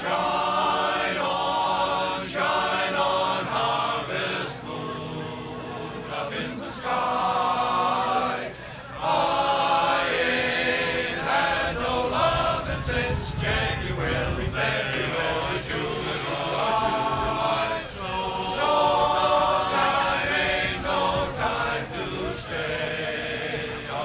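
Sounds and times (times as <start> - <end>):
men's chorus singing: 0.0 - 24.0.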